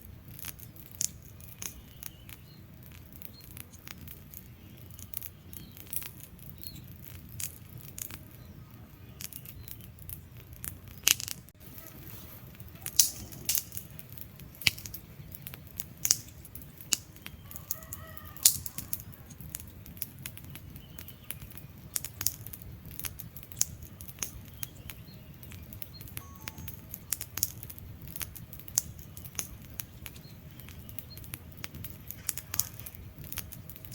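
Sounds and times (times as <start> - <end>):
low rumble of flames: 0.0 - 33.9
wood fire crackling: 0.0 - 33.9.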